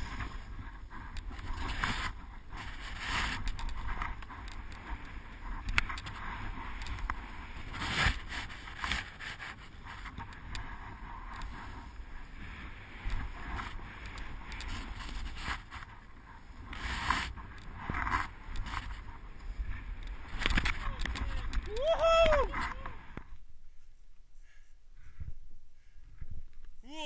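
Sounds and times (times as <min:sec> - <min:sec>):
wind rumble on microphone: 0:00.0 - 0:23.5.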